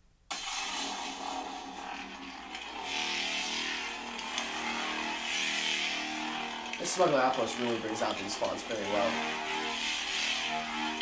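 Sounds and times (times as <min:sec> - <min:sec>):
lightsaber blade hum: 0:00.3 - 0:11.0.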